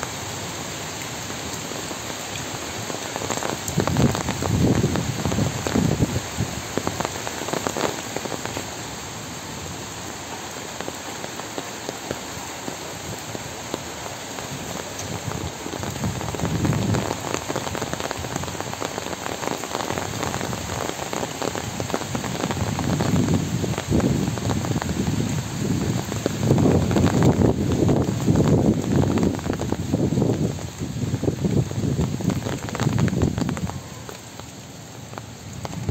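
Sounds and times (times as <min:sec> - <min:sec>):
rain on wet pavement: 0:00.0 - 0:35.9.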